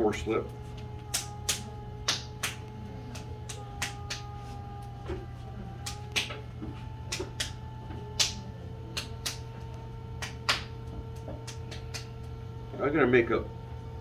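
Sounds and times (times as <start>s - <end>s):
potter's wheel humming: 0.0s - 14.0s.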